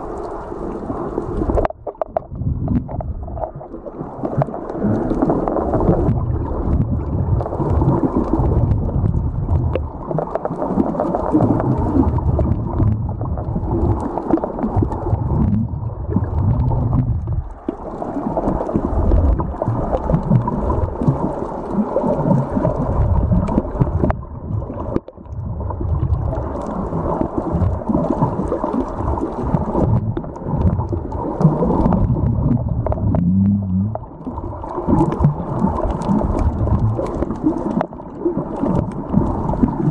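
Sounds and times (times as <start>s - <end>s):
underwater churning rumble: 0.0s - 39.9s.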